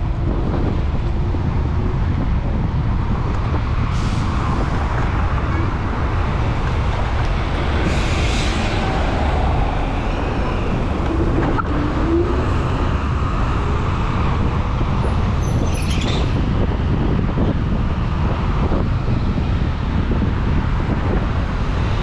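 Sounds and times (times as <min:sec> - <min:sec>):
wind and road noise rumble: 0:00.0 - 0:22.0.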